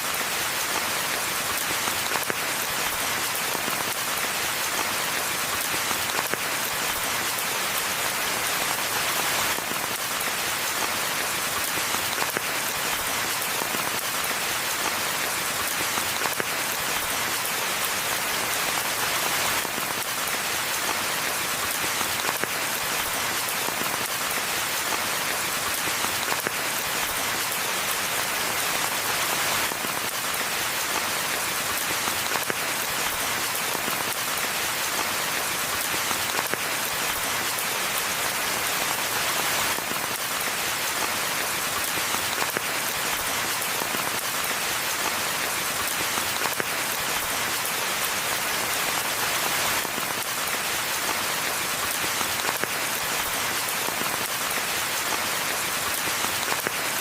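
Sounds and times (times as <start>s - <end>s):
rain on foliage: 0.0s - 57.0s.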